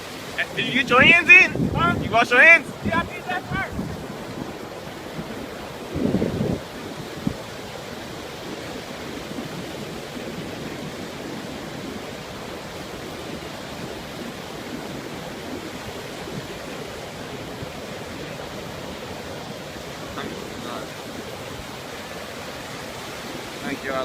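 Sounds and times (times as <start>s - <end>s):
ocean surf washing ashore: 0.0s - 24.0s.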